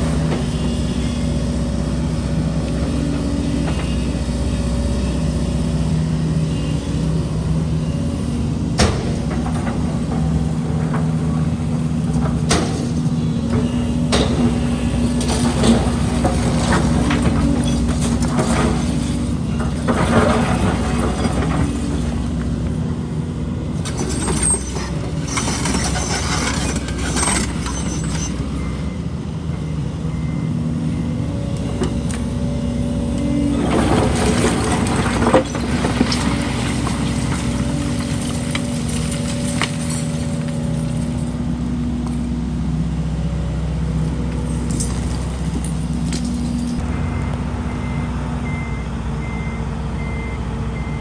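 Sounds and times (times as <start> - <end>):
heavy diesel machinery running: 0.0 - 51.0.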